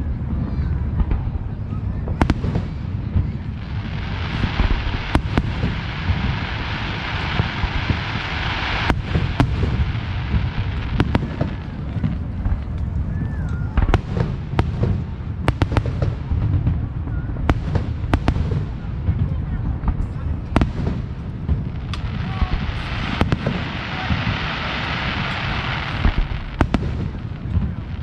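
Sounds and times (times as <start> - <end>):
distant booms rumbling: 0.8 - 28.0
fireworks bangs and pops: 1.0 - 28.0
fireworks crackling hiss: 2.1 - 28.0.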